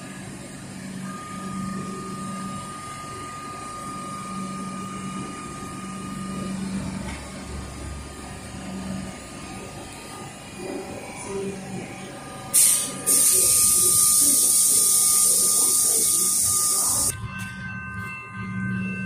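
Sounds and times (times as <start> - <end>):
electric train equipment humming: 0.0 - 19.0
thin high whine: 0.4 - 7.6, 10.6 - 19.0.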